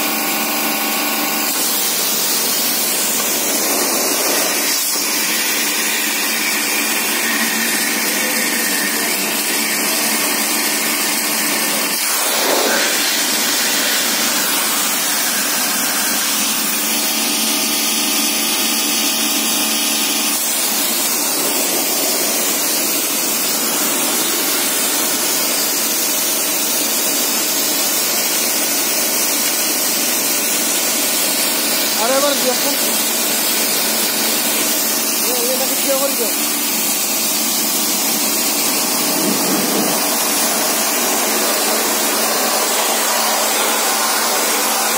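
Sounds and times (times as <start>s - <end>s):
pump motor hum: 0.0s - 44.9s
pressure washer jet hissing: 1.4s - 17.8s, 20.4s - 44.9s.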